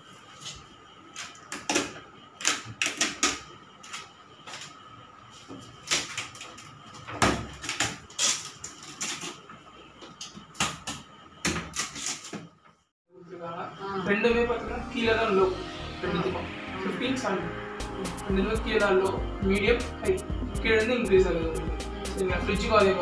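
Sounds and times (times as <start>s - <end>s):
faint steady whine: 0.0s - 11.4s, 12.6s - 23.0s.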